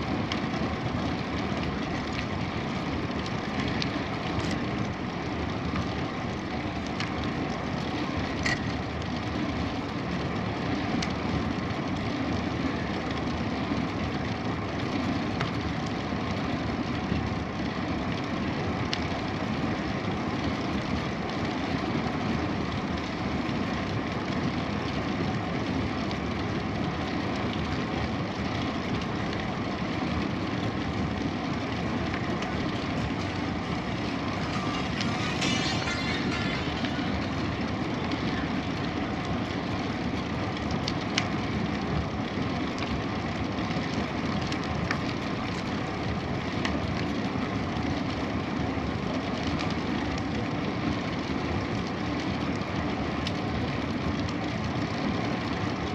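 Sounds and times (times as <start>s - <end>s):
bicycle tyres rolling on path: 0.0s - 55.9s.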